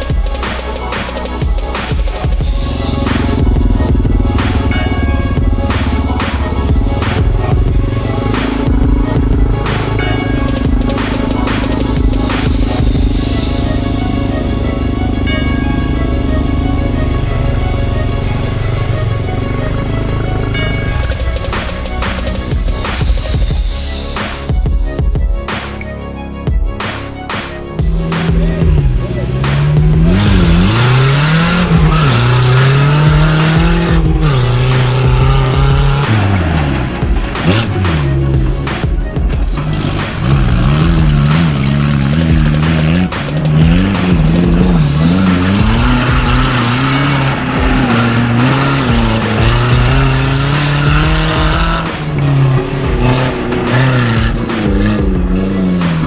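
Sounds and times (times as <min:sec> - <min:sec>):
off-road vehicle engine revving: 0:00.0 - 0:24.4, 0:27.3 - 0:56.0
music: 0:00.0 - 0:56.0.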